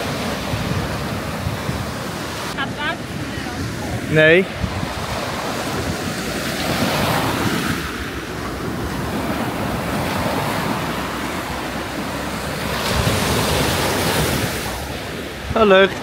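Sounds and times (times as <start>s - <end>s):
sea waves breaking on shore: 0.0s - 16.0s
wind buffeting microphone: 0.0s - 16.0s.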